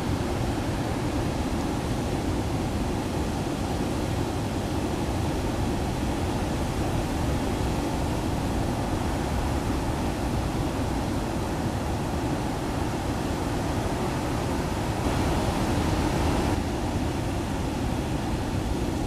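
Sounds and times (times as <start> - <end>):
rough surf: 0.0 - 19.0
strong wind roaring: 0.0 - 19.0.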